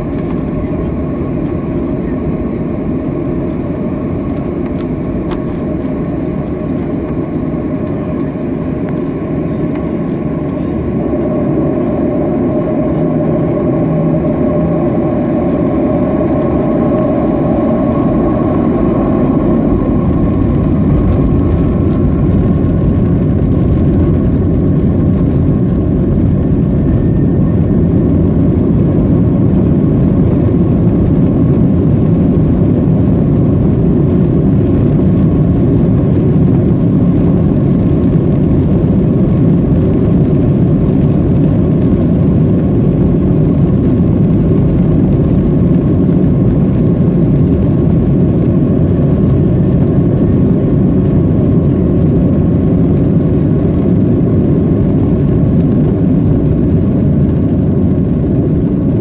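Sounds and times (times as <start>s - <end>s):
jet engine hum: 0.0s - 59.0s
low cabin rumble: 0.0s - 59.0s.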